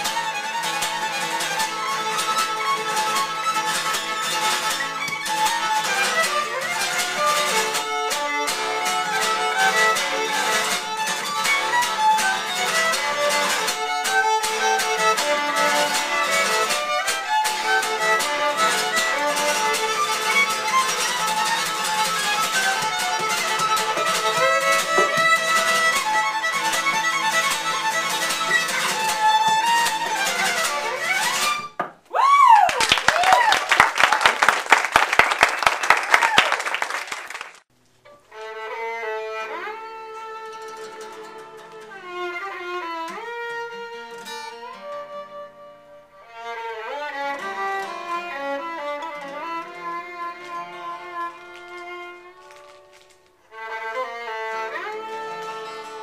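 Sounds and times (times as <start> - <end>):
acoustic guitar accompanying: 0.0 - 31.8, 38.8 - 56.0
violin melody: 0.0 - 31.8, 38.0 - 56.0.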